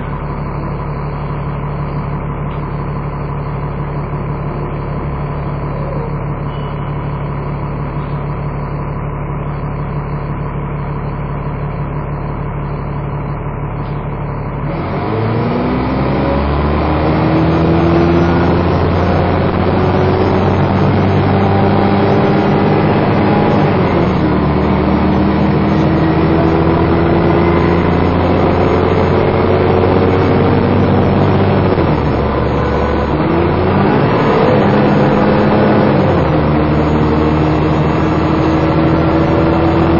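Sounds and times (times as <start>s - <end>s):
bus engine accelerating: 0.0s - 39.9s
whine: 0.0s - 39.9s.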